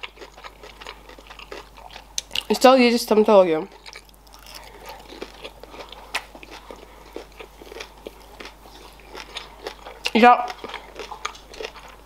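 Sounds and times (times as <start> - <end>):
chewing with wet smacks: 0.0 - 2.6, 3.7 - 12.0.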